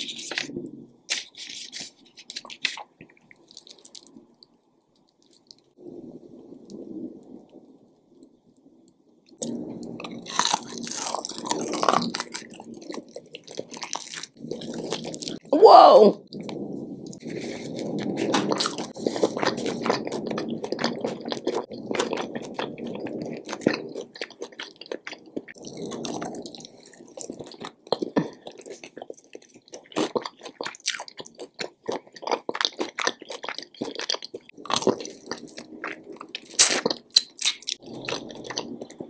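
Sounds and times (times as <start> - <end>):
person chewing wetly: 0.0 - 4.2, 5.0 - 5.7, 9.4 - 15.5, 16.2 - 39.0.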